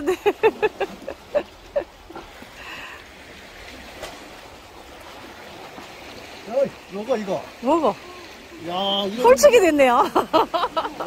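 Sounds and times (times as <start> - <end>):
sea water washing: 0.0 - 11.0.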